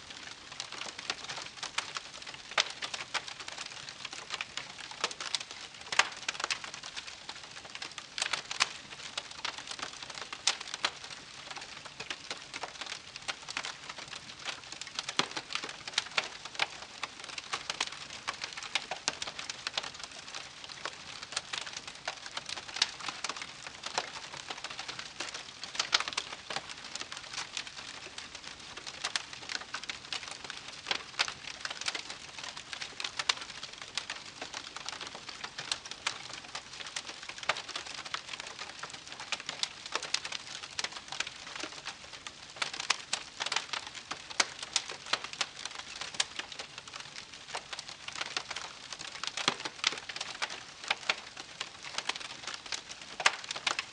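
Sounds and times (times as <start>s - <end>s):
campfire crackling: 0.1s - 53.9s.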